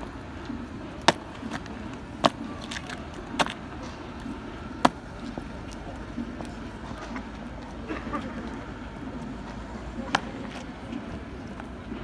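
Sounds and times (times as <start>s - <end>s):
boot heels clacking on asphalt: 0.0s - 7.9s, 9.1s - 12.0s.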